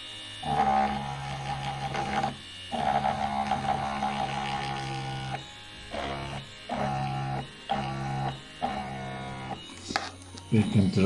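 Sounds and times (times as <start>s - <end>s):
rotary tool motor running: 0.0s - 11.0s.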